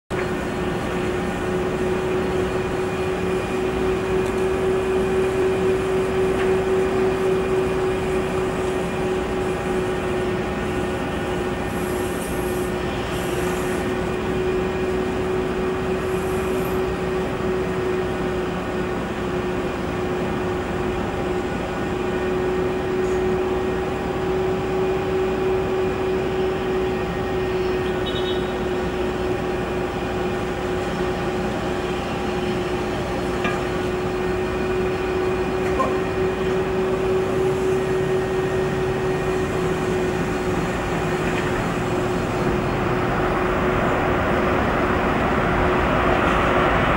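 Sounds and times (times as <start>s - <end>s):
jet aircraft rumble and whine: 0.1s - 46.9s.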